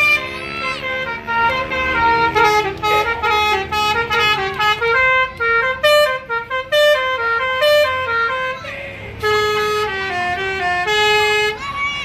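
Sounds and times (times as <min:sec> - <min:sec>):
multi-tone bus horn melody: 0:00.0 - 0:12.0.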